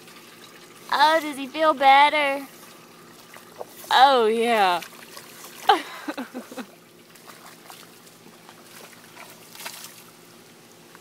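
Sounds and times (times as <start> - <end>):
faint wet trickling: 0.0 - 11.0.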